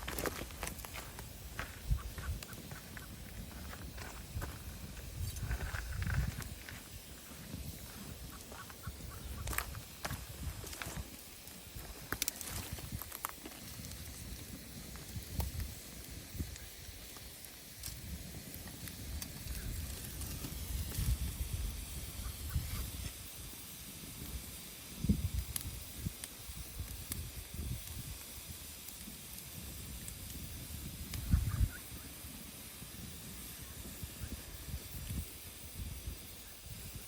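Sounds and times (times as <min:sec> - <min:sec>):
wood fire hissing and crackling: 0:00.0 - 0:37.0.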